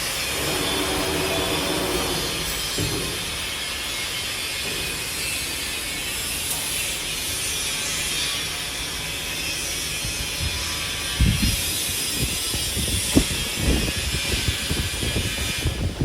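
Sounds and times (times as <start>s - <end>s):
cnc router whirring: 0.0s - 16.0s.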